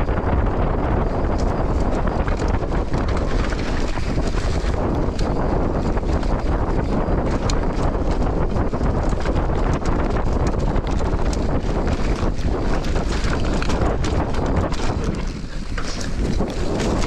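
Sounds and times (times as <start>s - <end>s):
bike clicks and rattles: 0.0s - 17.0s
tyre rumble: 0.0s - 17.0s
wind on microphone: 0.0s - 17.0s.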